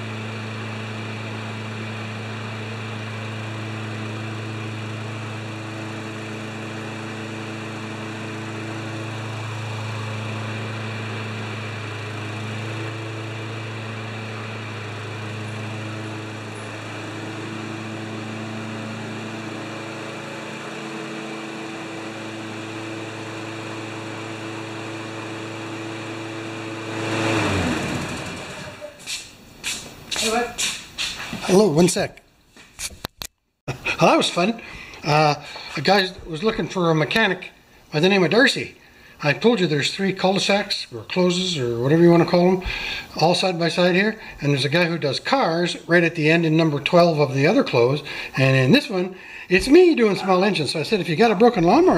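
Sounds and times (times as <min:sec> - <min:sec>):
push mower engine running: 0:00.0 - 0:29.2, 0:33.7 - 0:51.9.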